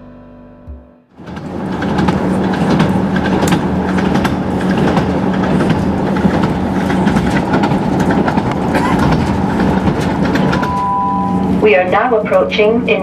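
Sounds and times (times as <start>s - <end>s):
train rumbling on rails: 1.1s - 13.0s.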